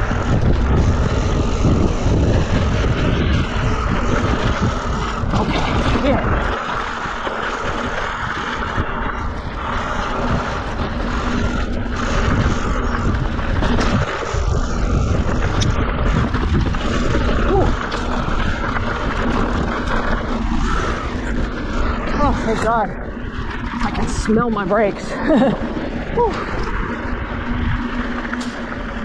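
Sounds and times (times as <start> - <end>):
faint steady drone: 0.0 - 29.0
tyres grinding over loose rock: 0.0 - 29.0.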